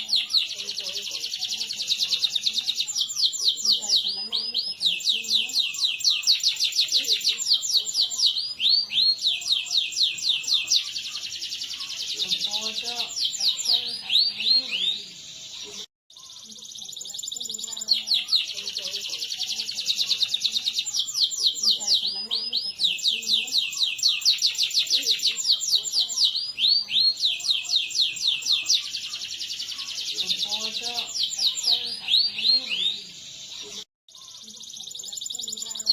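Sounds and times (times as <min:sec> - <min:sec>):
canary singing: 0:00.0 - 0:35.9.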